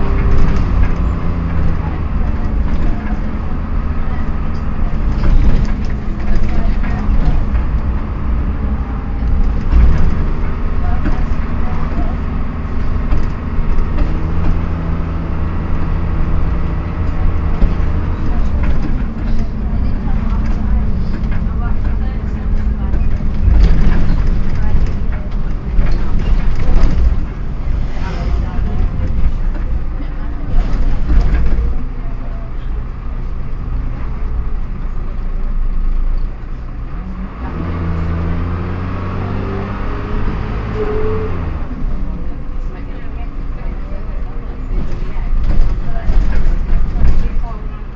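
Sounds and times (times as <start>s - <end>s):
bus engine droning: 0.0s - 47.9s.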